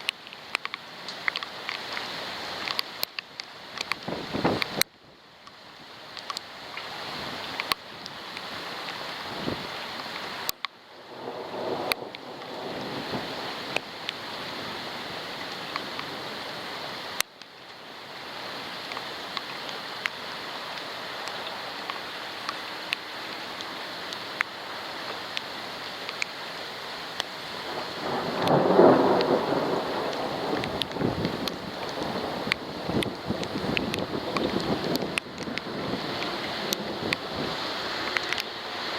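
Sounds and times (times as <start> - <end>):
raindrops hitting camera housing: 0.0 - 38.9
steady rain: 0.0 - 38.9.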